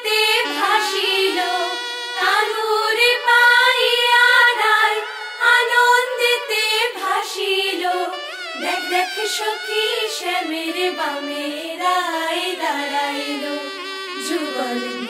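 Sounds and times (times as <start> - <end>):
women singing wedding song: 0.0 - 15.0.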